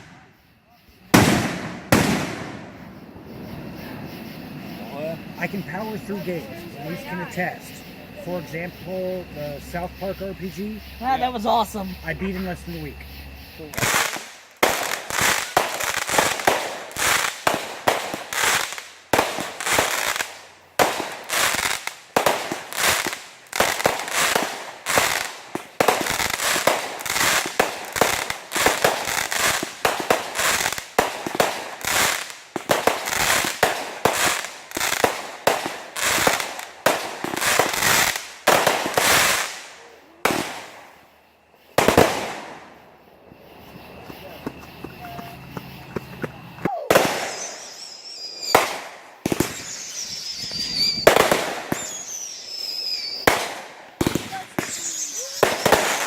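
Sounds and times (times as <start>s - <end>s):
fireworks bangs with crackling: 0.0s - 12.9s, 13.5s - 41.0s, 41.6s - 42.8s, 46.4s - 56.0s.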